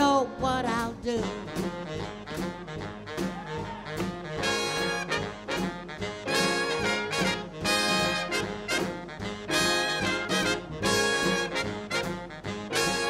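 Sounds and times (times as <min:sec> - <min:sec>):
swing big band playing: 0:00.0 - 0:13.0.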